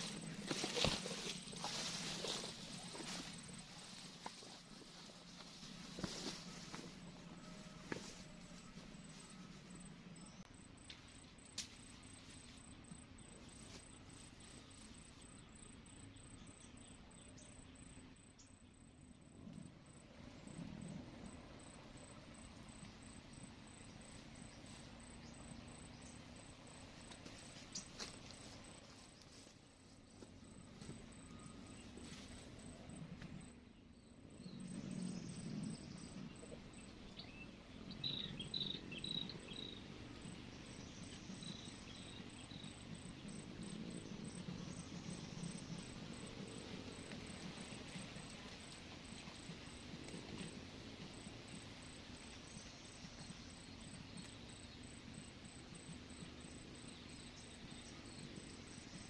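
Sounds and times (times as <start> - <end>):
cricket trilling: 0.0 - 29.5, 30.4 - 59.0.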